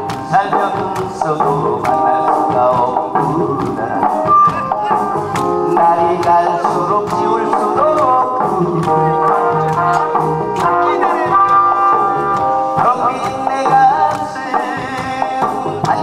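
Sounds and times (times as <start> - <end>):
amplified backing music: 0.0 - 16.0
man singing into a microphone: 0.0 - 16.0.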